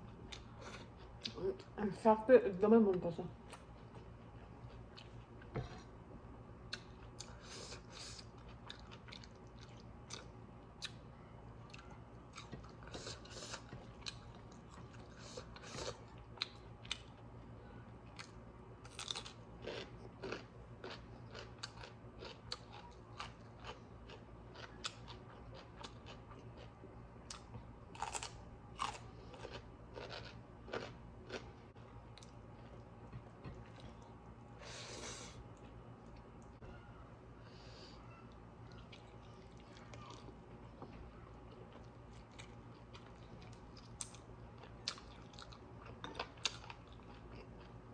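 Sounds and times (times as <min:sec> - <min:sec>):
chewing and crunching food: 0:00.0 - 0:01.8, 0:03.4 - 0:06.0, 0:06.6 - 0:36.6, 0:38.2 - 0:47.9.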